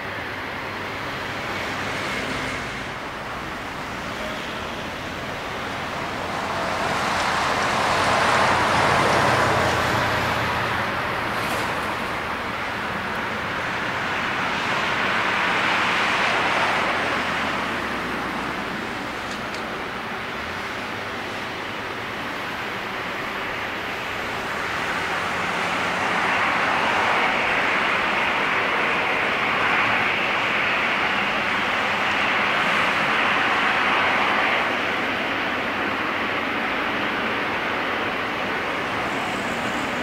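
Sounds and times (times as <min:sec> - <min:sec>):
jet engines taxiing: 0:00.0 - 0:40.0.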